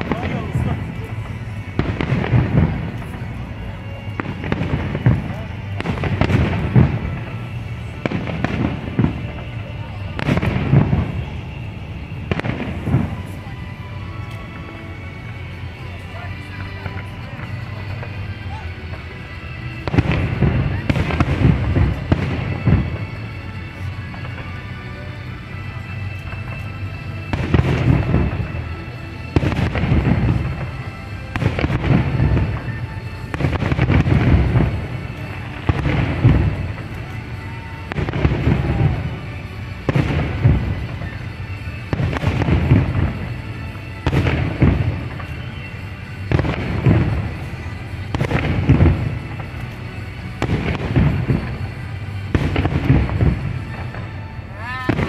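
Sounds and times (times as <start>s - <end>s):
fireworks booming: 0.0s - 55.0s
music playing: 0.0s - 55.0s.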